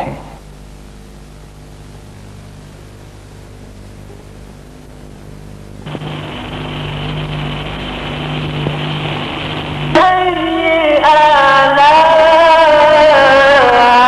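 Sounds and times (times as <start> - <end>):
loud hiss with low hum: 0.0 - 14.0
steady electrical hum: 0.0 - 14.0.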